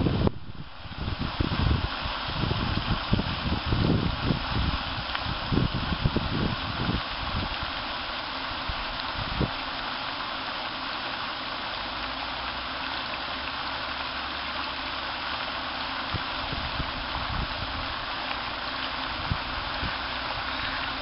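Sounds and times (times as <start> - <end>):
fountain spray splashing on water: 0.0 - 21.0.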